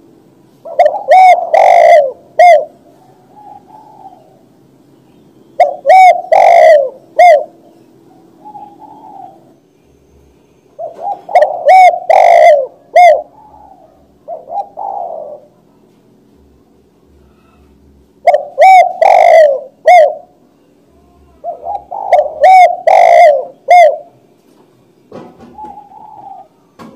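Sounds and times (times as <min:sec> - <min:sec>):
dove cooing: 0:00.0 - 0:04.6, 0:05.6 - 0:09.6, 0:10.8 - 0:15.8, 0:17.0 - 0:24.4, 0:25.1 - 0:26.9.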